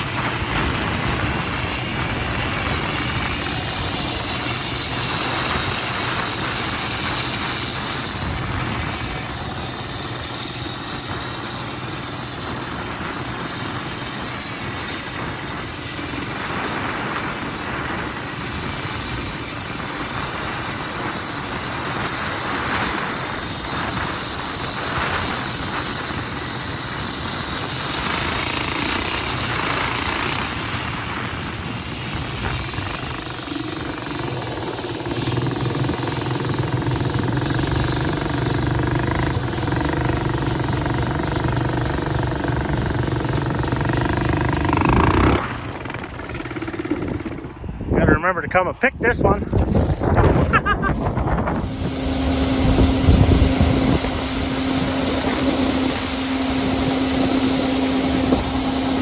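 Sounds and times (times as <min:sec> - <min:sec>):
diesel farm machine engine running: 0:00.0 - 0:59.0.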